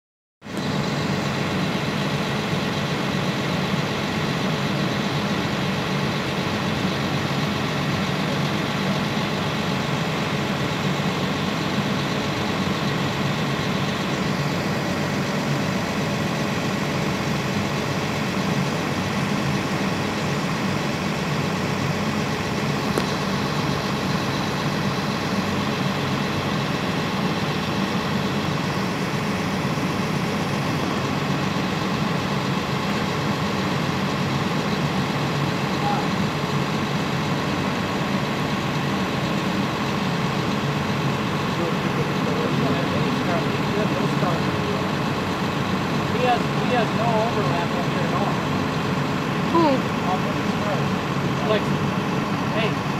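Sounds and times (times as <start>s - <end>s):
engine idling: 0.4s - 52.9s.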